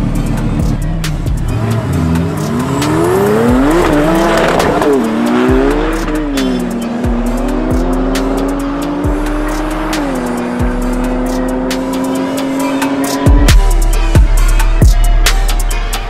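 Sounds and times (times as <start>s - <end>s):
car engine revving: 0.0s - 16.0s
electronic music with bass beat: 0.0s - 16.0s.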